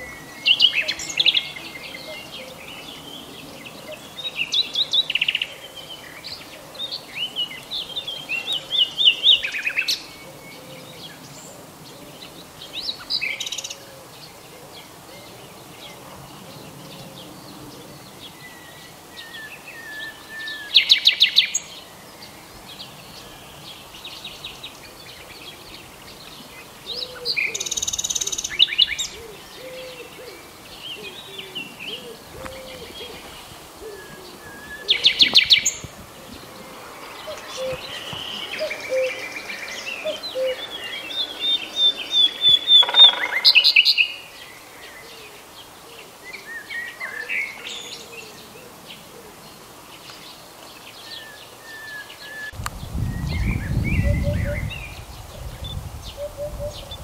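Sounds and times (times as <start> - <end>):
faint low wavering bird calls: 0.0 - 57.0
songbirds singing and chirping: 0.0 - 57.0.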